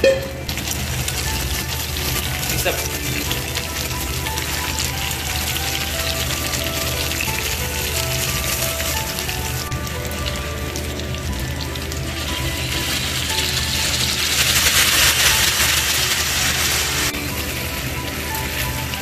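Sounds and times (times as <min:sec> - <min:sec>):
background music: 0:00.0 - 0:19.0
food frying in a pan: 0:00.0 - 0:19.0
sauce sizzling hiss: 0:00.5 - 0:19.0.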